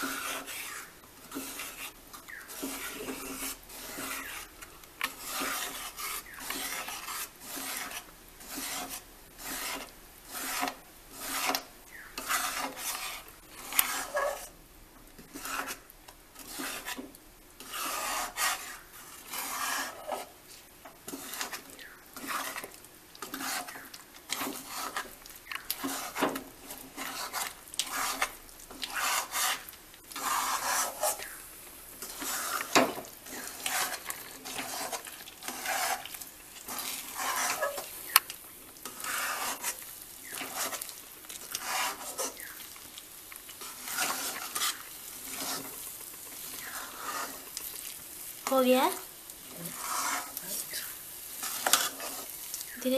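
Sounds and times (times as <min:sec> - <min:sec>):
metal spatula scraping a pan: 0:00.0 - 0:52.9.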